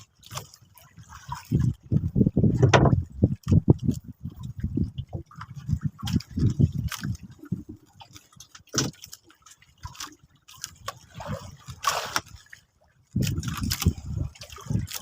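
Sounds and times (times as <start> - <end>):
rush of water: 0.0 - 15.0
water sloshing and gurgling: 0.0 - 15.0.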